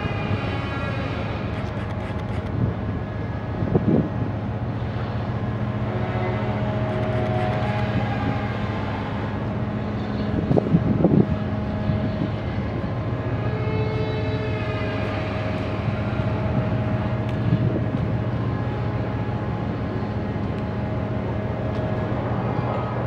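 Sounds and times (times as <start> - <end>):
low machinery hum: 0.0 - 23.0.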